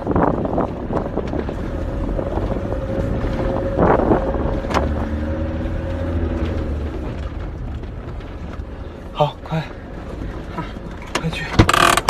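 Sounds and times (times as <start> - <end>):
wind buffeting: 0.0 - 10.9
engine running low rumble: 0.0 - 12.0.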